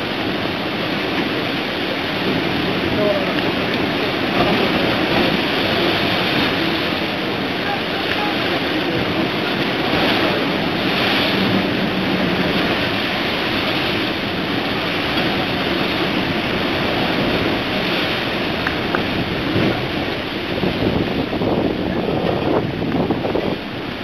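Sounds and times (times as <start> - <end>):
sea churning against ship hull: 0.0 - 24.0
wind buffeting microphone: 0.0 - 24.0.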